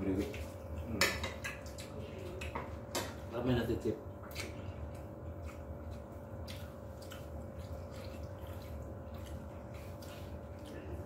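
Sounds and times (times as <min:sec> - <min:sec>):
steady room hum: 0:00.0 - 0:11.0
soft eating clicks and smacks: 0:00.2 - 0:11.0.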